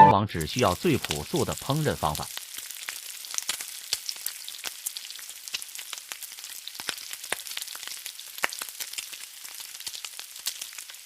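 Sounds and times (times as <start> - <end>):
oil sizzling and popping in pan: 0.4 - 11.0.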